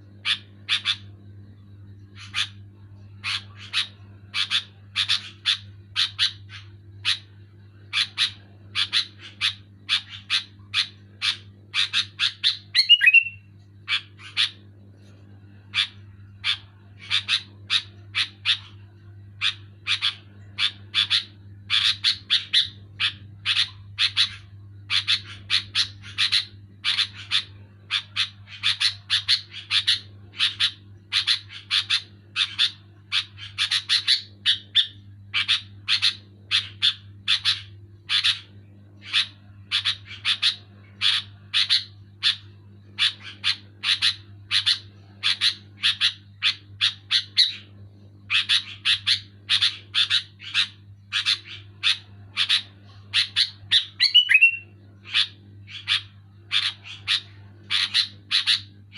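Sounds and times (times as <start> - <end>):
steady low hum: 0.0 - 58.9
bulbul chattering calls: 0.2 - 1.1, 3.2 - 7.2, 7.9 - 14.6, 19.4 - 42.4, 43.0 - 47.7, 48.3 - 58.7.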